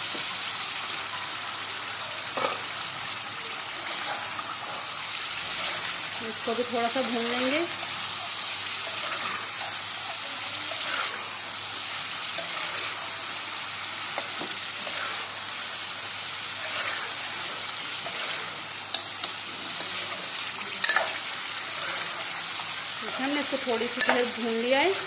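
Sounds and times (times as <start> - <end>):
chicken sizzling in a pot: 0.0 - 25.0.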